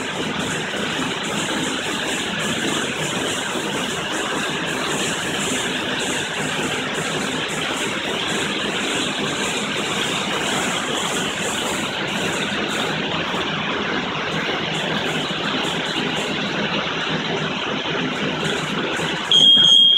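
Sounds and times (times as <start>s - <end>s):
low machine hum: 0.0s - 19.9s.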